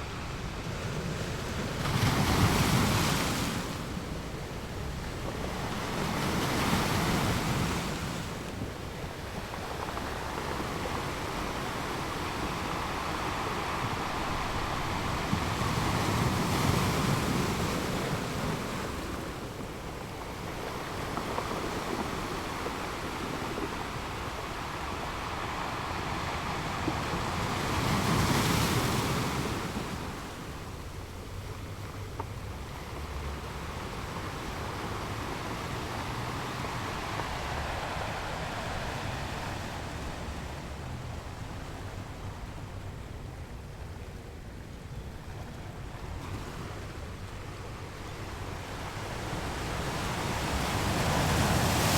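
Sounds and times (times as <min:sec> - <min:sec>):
ocean waves washing in: 0:00.0 - 0:31.8, 0:32.4 - 0:51.9.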